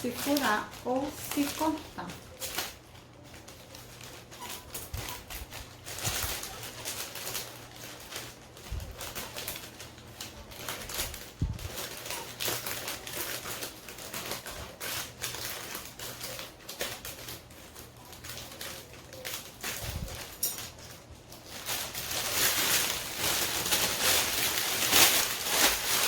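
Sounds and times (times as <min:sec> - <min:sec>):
paper rustling: 0:00.0 - 0:26.0
scissors snipping paper: 0:00.0 - 0:26.0.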